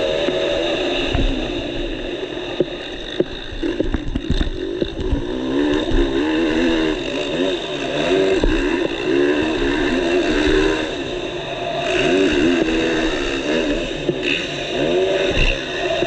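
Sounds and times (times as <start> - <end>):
motocross engine revving: 0.0 - 16.0.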